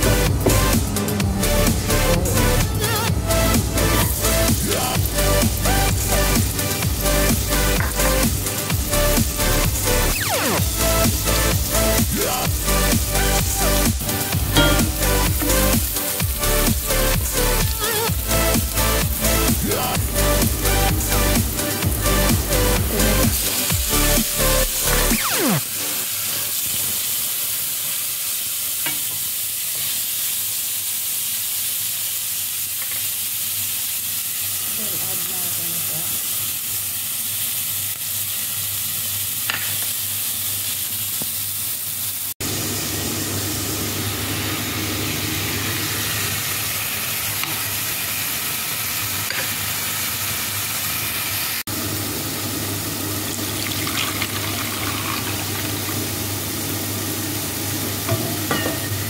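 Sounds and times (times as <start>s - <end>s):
onion and tomato sizzling in oil: 0.0s - 59.0s.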